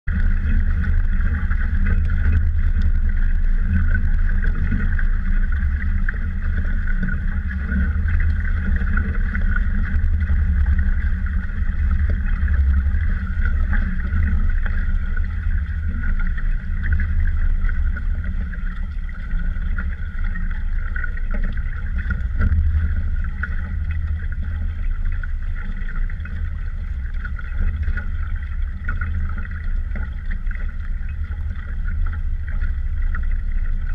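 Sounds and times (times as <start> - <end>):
water rushing past hull: 0.1 - 33.9.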